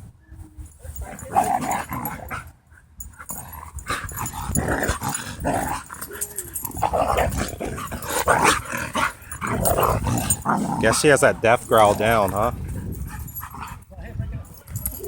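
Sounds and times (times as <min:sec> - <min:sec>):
dogs growling in play: 0:01.0 - 0:13.9.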